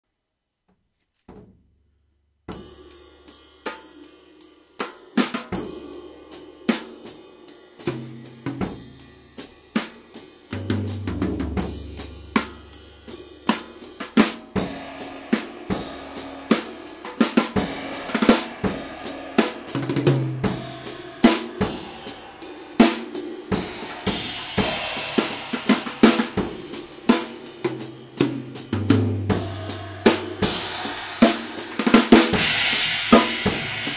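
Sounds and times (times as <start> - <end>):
drum kit played with brushes: 2.5 - 33.9.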